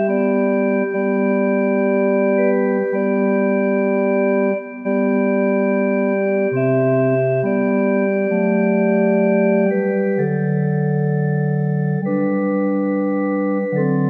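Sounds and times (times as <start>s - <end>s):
organ playing hymn chords: 0.0s - 14.0s.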